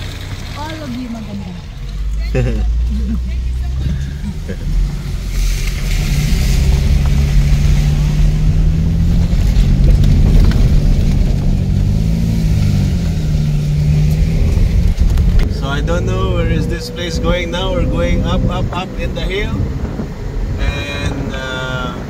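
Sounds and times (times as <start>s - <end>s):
car engine hum: 0.0s - 22.0s.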